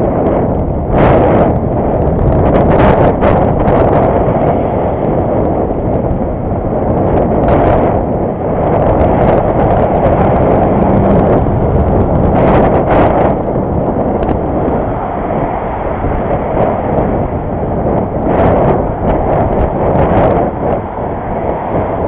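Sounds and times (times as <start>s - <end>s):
bicycle road noise: 0.0s - 22.0s
wind rushing on microphone: 0.0s - 22.0s.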